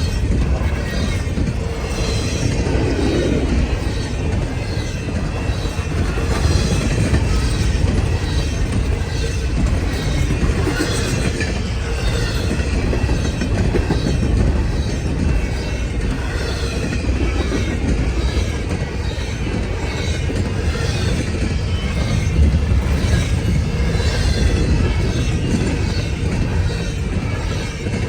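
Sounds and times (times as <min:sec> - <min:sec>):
train wheels clattering on rails: 0:00.0 - 0:28.0.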